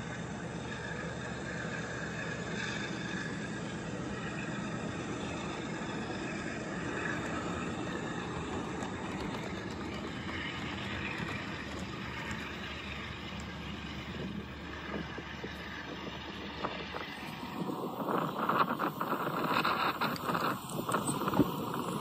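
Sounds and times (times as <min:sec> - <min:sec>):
toy train motor whir and rattle: 0:00.6 - 0:22.0.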